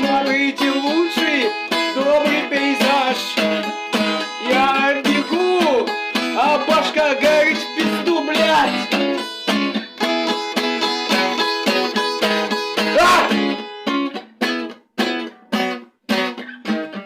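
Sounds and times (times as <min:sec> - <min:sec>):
acoustic guitar choppy chords: 0:00.0 - 0:17.0.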